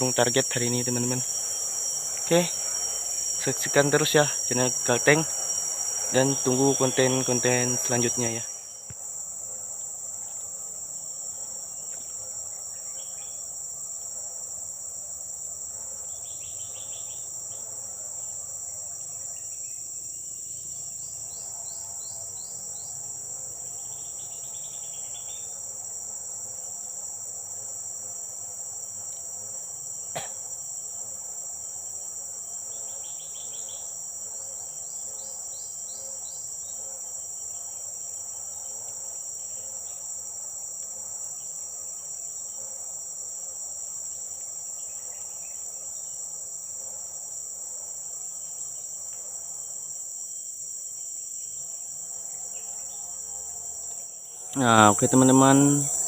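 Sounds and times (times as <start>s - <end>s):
forest insects droning: 0.0s - 56.0s.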